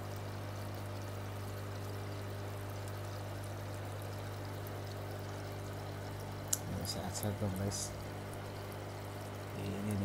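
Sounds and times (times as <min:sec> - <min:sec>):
water bubbling and gurgling: 0:00.0 - 0:10.0.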